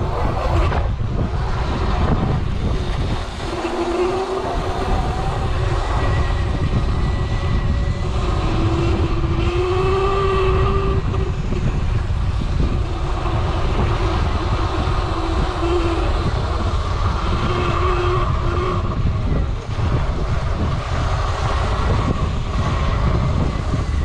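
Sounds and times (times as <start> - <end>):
electric motor whine: 0.0 - 24.0
wind on microphone: 0.0 - 24.0.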